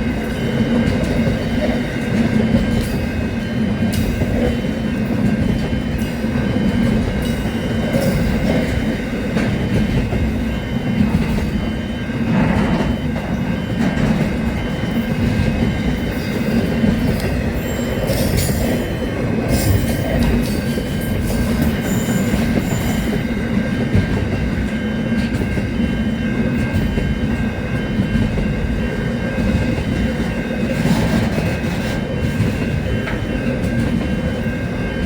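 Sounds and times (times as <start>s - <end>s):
train rumbling on track: 0.0s - 35.0s.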